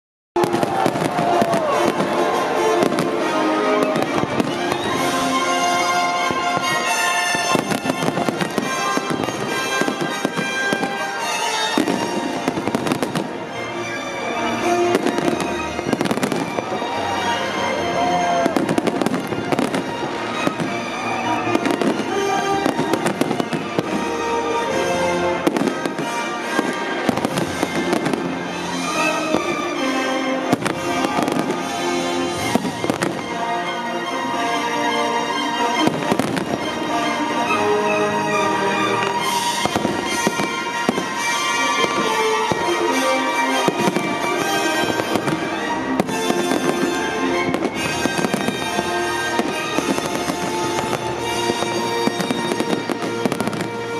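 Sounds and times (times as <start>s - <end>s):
fireworks bursting: 0.4s - 33.6s, 35.8s - 37.5s, 38.6s - 53.9s
music: 0.4s - 53.9s.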